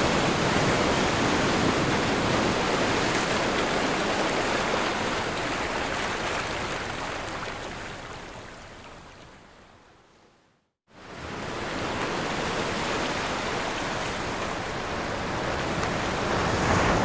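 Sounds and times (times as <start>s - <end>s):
ocean surf washing: 0.0s - 9.2s, 11.0s - 17.0s.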